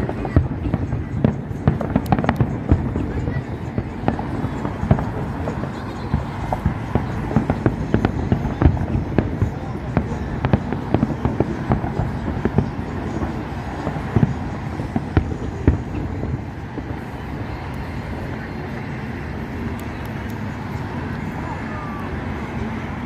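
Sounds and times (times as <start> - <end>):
distant fireworks bangs and crackles: 0.0 - 23.0
steady low rumble: 0.0 - 23.0.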